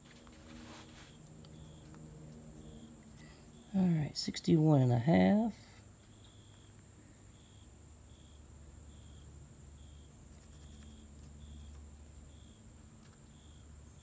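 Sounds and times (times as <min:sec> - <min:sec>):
steady high whine: 0:00.0 - 0:14.0
cricket chirping: 0:01.1 - 0:04.6, 0:05.9 - 0:14.0.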